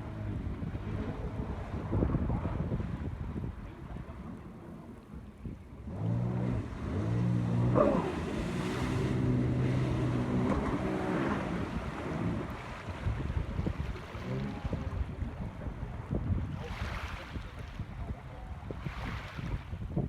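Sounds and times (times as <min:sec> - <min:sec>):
jet ski engine drone: 0:00.0 - 0:18.8
wind buffeting microphone: 0:00.0 - 0:20.0.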